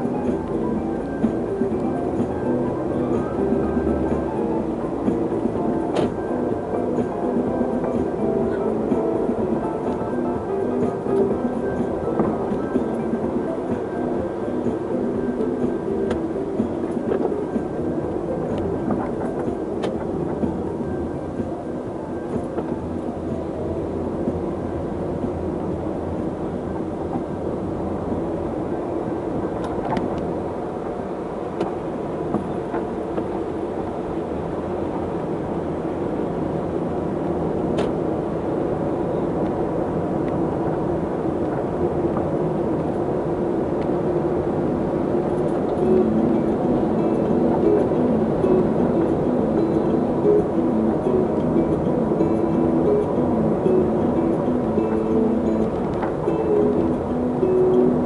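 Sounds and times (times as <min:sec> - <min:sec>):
faint steady tones: 0:00.0 - 0:58.0
vehicle rumble: 0:00.0 - 0:58.0.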